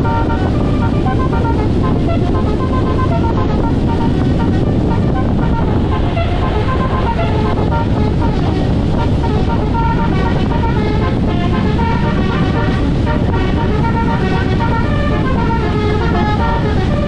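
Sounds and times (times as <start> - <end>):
heavy truck engine rumble: 0.0 - 17.0
musical truck horn tune: 0.0 - 17.0.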